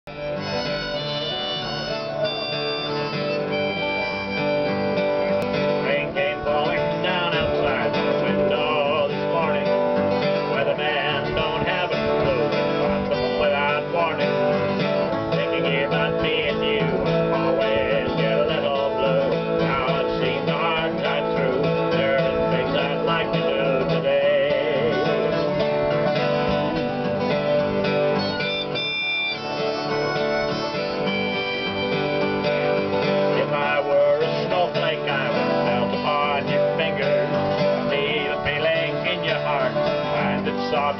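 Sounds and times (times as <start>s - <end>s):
acoustic guitars strumming: 0.1s - 40.9s
harmonica playing: 0.1s - 40.9s.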